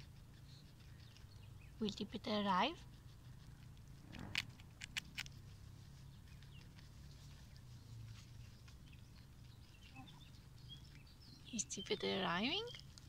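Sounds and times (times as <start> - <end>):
guinea pig chewing: 0.0 - 13.0.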